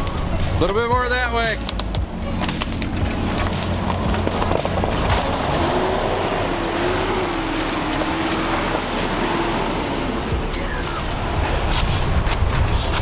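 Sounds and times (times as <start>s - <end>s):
van engine pulling under load: 0.0s - 13.0s.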